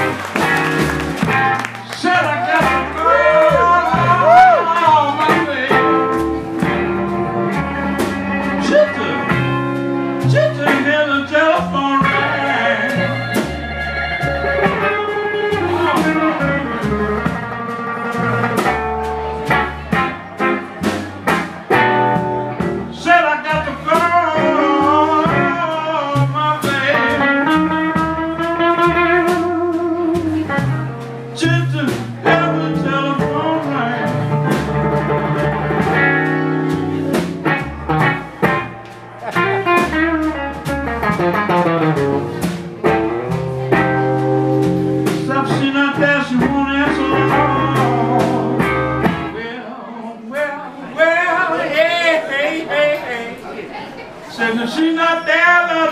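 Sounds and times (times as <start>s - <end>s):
electric guitar: 0.0s - 49.4s
drums: 0.0s - 49.5s
upright bass: 0.0s - 53.4s.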